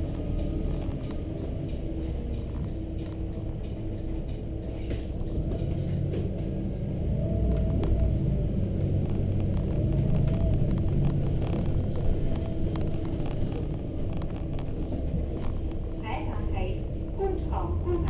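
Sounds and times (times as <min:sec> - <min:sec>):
bus diesel engine rumble: 0:00.0 - 0:18.0.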